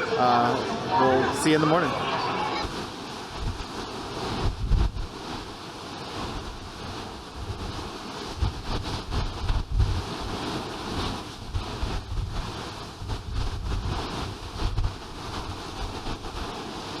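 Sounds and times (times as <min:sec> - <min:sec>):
steady rushing noise: 0:00.0 - 0:17.0
wind buffeting microphone: 0:00.0 - 0:17.0.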